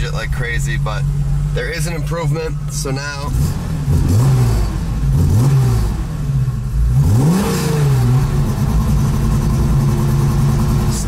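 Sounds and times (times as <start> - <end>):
car engine idling: 0.0 - 11.0
engine revving: 0.0 - 11.0.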